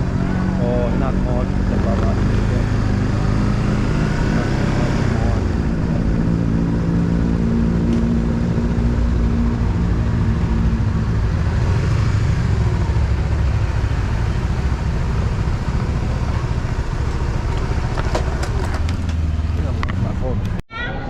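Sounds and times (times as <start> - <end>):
motorcycle engine humming: 0.0 - 20.6.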